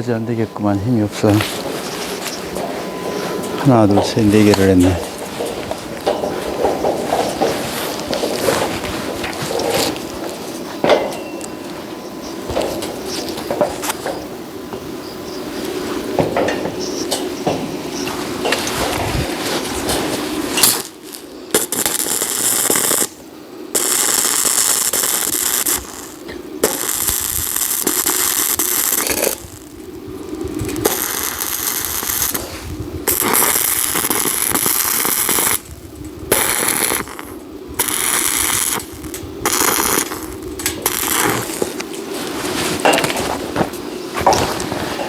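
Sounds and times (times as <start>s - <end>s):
arc welding crackling hiss: 0.0s - 45.0s.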